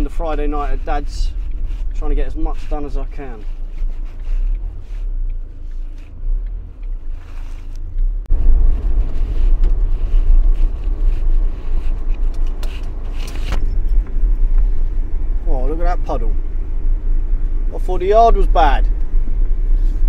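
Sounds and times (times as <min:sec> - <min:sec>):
van engine and road rumble: 0:00.0 - 0:20.0.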